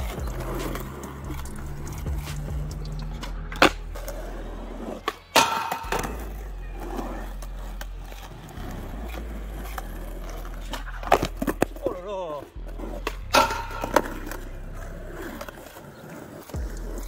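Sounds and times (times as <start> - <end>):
skateboard clack: 0.0 - 12.0, 12.6 - 17.0
skateboard trucks grinding a rail: 0.0 - 12.0, 12.6 - 17.0
skateboard wheels rolling on asphalt: 0.0 - 17.0.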